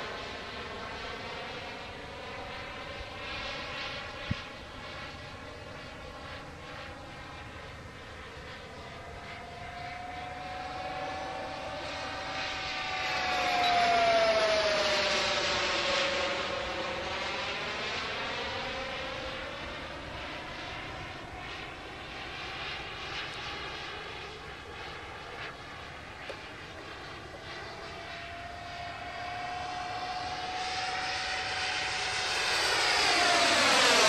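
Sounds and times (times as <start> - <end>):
model airplane motor whine: 0.0 - 34.0.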